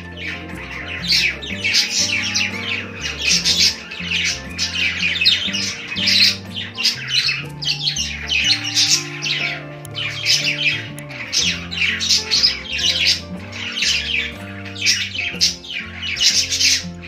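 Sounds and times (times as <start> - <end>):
background music with low notes: 0.0 - 17.0
budgerigars chattering and chirping: 0.0 - 17.0.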